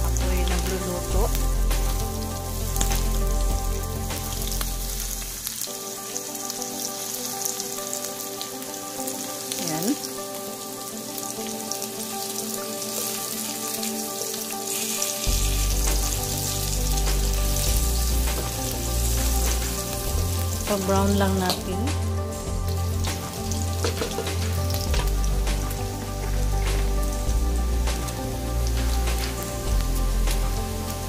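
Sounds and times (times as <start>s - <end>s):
garlic sizzling in oil: 0.0s - 31.0s.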